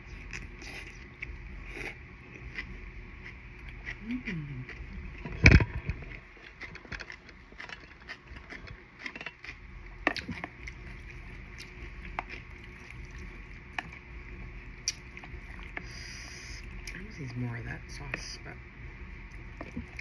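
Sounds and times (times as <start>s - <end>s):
steady low hum: 0.0s - 20.0s
chewing and slurping: 0.1s - 14.0s, 14.8s - 17.0s.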